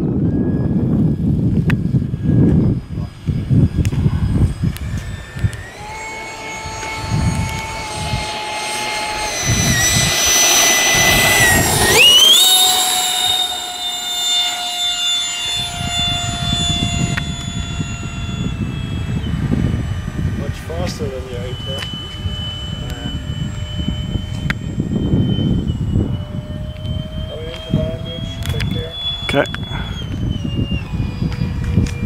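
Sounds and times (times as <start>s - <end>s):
electric ducted fan whining: 0.0s - 32.0s.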